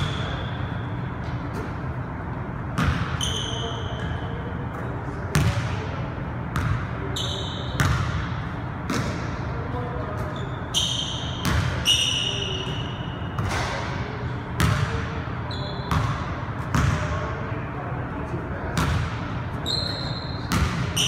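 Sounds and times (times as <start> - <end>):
sneakers squeaking: 0.0 - 17.4, 18.5 - 21.0.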